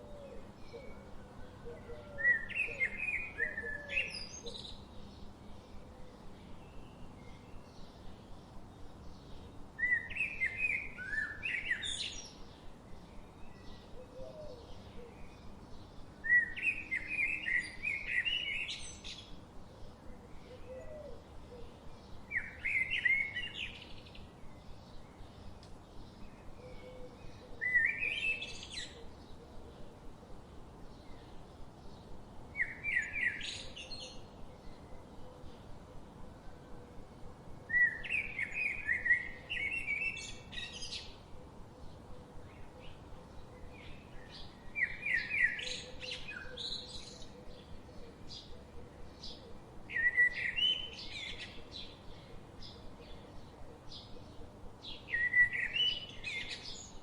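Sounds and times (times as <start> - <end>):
songbird singing phrase: 0.0 - 57.0.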